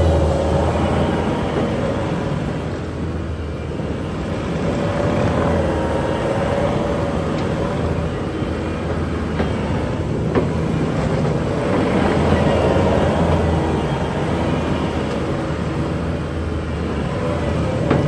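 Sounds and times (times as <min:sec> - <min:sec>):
diesel engine with whine: 0:00.0 - 0:18.0.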